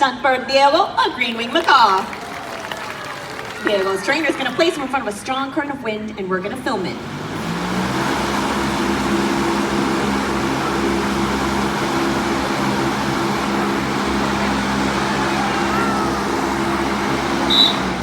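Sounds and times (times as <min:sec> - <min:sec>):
fan blowing air: 0:00.5 - 0:18.0
low motor hum: 0:01.4 - 0:18.0.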